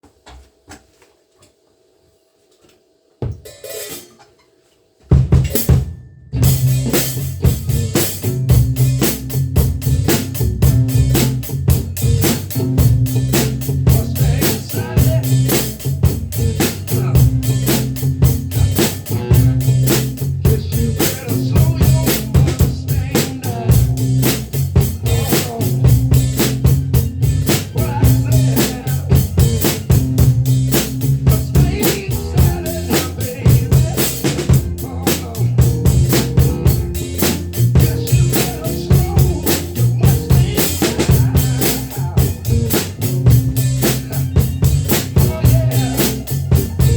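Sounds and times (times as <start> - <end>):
drum kit playing a groove: 5.0 - 46.9
recorded song with bass line: 5.4 - 46.9.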